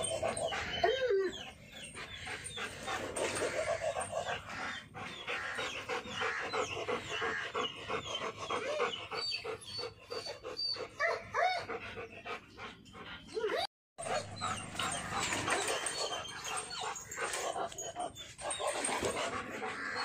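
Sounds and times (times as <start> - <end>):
dog whining: 0.0 - 5.7, 7.8 - 11.8, 13.3 - 20.0
dog panting: 0.0 - 20.0.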